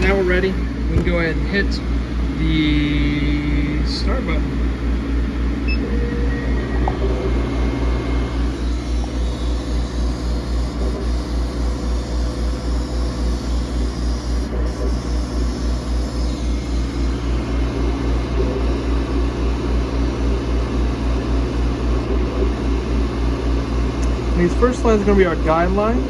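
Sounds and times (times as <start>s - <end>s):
laser cutter machine hum: 0.0s - 26.0s.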